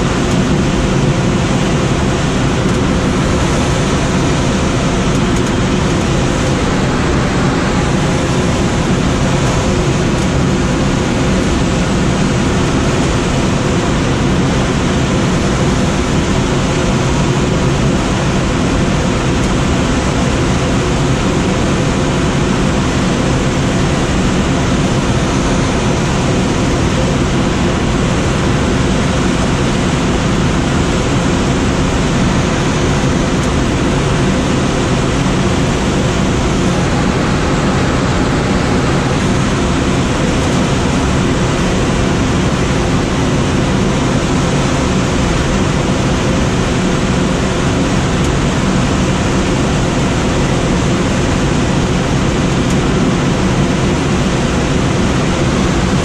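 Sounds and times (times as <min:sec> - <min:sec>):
airflow rushing over glider: 0:00.0 - 0:56.0.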